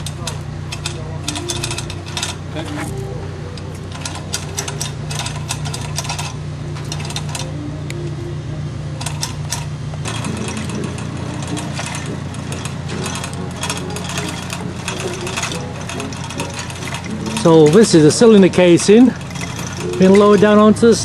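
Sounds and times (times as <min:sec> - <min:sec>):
hoist chain rattling and clicking: 0:00.0 - 0:07.6, 0:08.9 - 0:21.0
steady low hum: 0:00.0 - 0:21.0.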